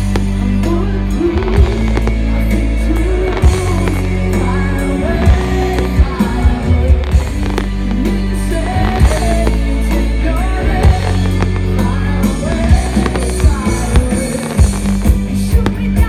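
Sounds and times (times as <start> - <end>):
pop-rock music with singing: 0.0 - 16.0.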